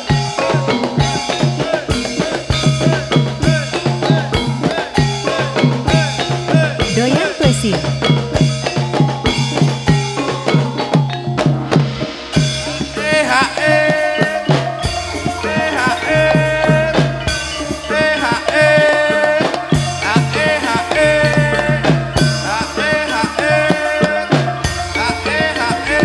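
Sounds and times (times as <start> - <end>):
gamelan music over loudspeakers: 0.0 - 26.0
metallophones playing: 0.0 - 26.0
steady drum beat: 0.0 - 26.0
wavering bending melody: 0.0 - 26.0.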